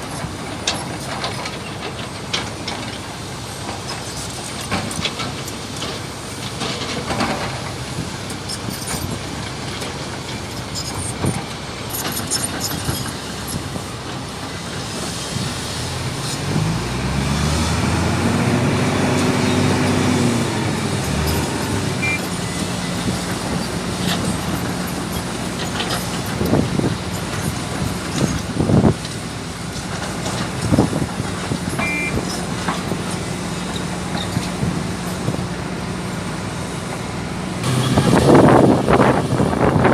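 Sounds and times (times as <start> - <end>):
excavator diesel engine revving: 0.0 - 39.9.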